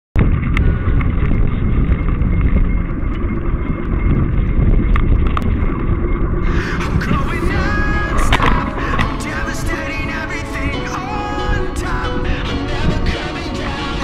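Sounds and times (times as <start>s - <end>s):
bike rattling: 0.2s - 12.4s
wind buffeting microphone: 0.2s - 14.0s.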